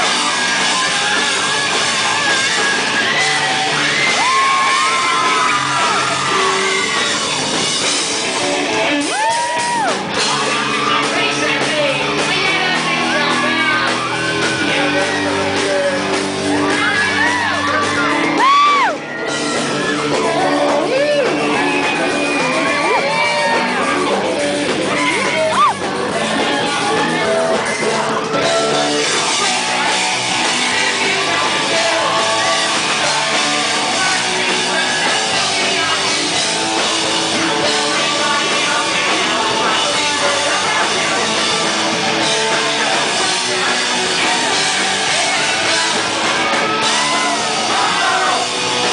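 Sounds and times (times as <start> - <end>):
rock band playing live: 0.0 - 48.9
shouted and sung vocals: 0.0 - 48.9.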